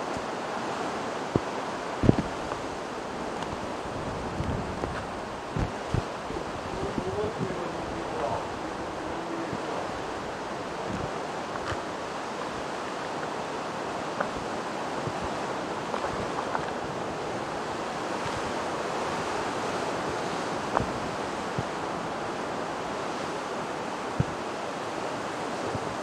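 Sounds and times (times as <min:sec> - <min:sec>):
sea waves washing ashore: 0:00.0 - 0:26.0
wind: 0:00.0 - 0:26.0.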